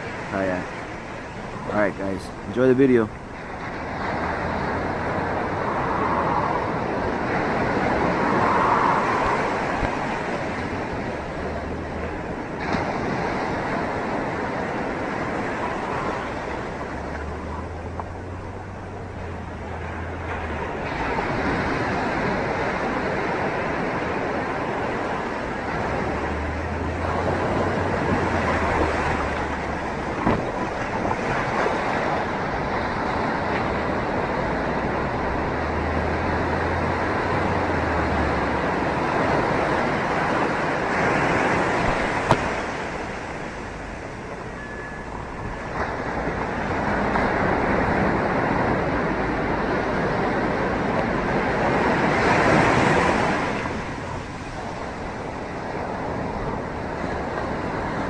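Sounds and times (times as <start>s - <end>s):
ocean surf breaking: 0.0s - 58.0s
wind rumbling on microphone: 0.0s - 58.0s.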